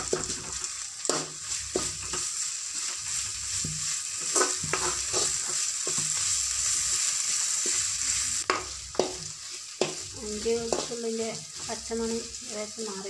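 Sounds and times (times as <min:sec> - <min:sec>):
metal spatula scraping a pan: 0:00.0 - 0:13.0
vegetables sizzling in oil: 0:00.0 - 0:13.0.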